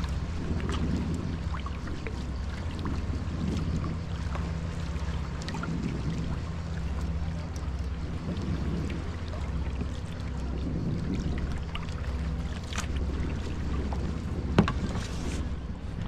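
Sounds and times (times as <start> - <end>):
water splashing around kayak: 0.0 - 16.0
wind rumble on microphone: 0.0 - 16.0.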